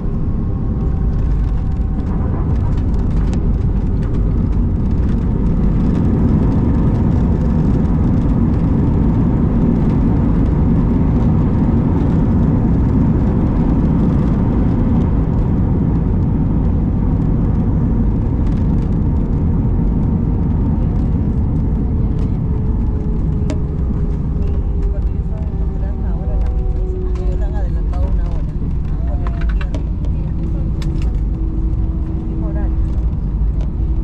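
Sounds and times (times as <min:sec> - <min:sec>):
airliner engines and airflow rumble: 0:00.0 - 0:34.0.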